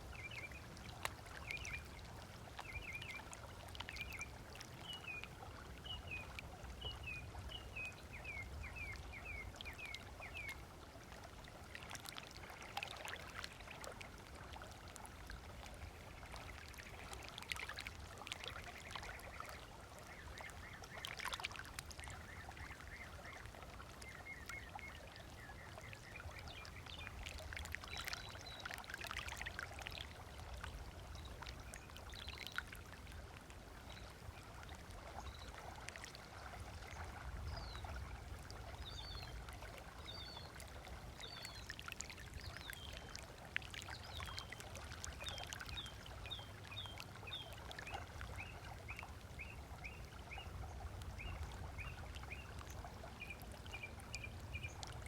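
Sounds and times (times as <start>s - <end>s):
small waves lapping on shore: 0.0s - 55.0s.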